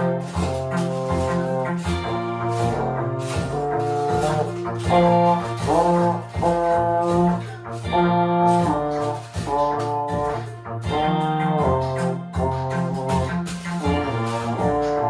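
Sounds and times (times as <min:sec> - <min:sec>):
euphonium melody: 0:00.0 - 0:15.0
low accompaniment: 0:00.0 - 0:15.0
toy maracas shaking: 0:00.0 - 0:15.0.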